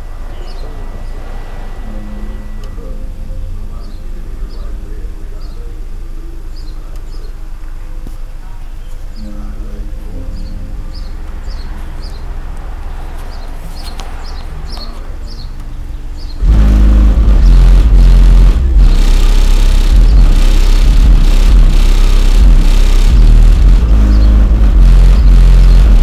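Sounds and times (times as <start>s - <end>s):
birds chirping: 0.0s - 26.0s
loud deep bass-heavy noise: 0.0s - 26.0s
low background rumble: 0.0s - 26.0s.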